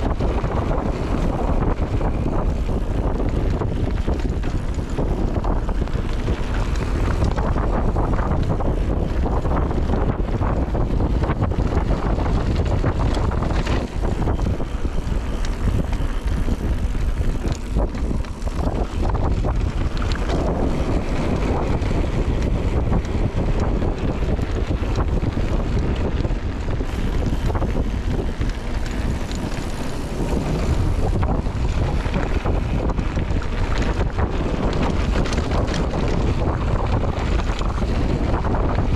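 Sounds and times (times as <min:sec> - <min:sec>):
bike rattling: 0:00.0 - 0:38.9
wind on microphone: 0:00.0 - 0:38.9.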